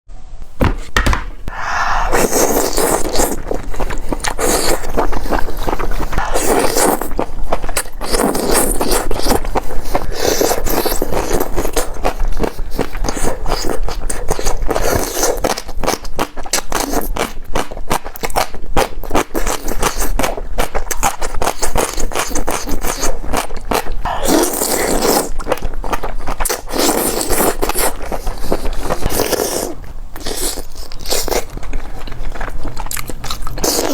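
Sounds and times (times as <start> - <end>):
biting and chewing: 2.0 - 33.9.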